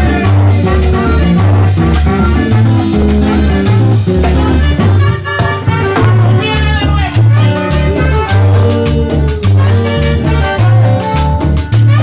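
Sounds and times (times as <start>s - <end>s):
keyboard lines: 0.0s - 12.0s
latin dance band playing: 0.0s - 12.0s
strong bass line: 0.0s - 12.0s.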